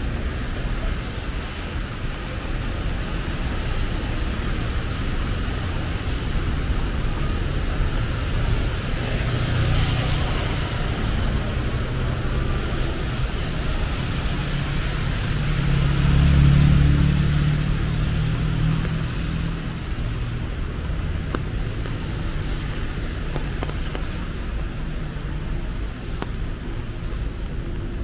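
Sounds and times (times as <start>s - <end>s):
traffic rumble on wet road: 0.0s - 28.0s.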